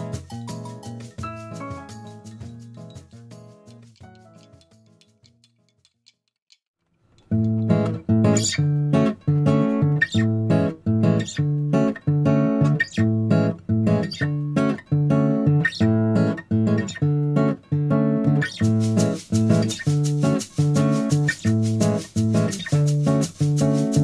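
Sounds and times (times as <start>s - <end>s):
strummed acoustic guitar: 0.0s - 4.6s, 7.2s - 24.0s.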